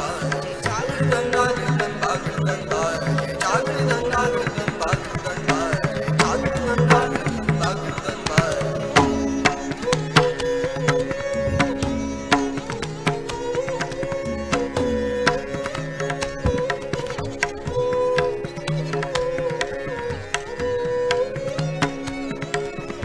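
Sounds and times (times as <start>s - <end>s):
harmonium notes: 0.0s - 20.7s
bowed string melody: 0.0s - 23.0s
tabla strokes: 0.0s - 23.0s.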